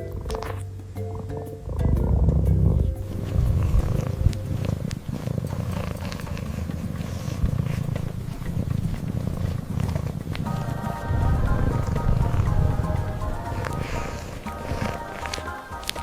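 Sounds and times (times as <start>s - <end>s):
cat purring: 1.7s - 16.0s.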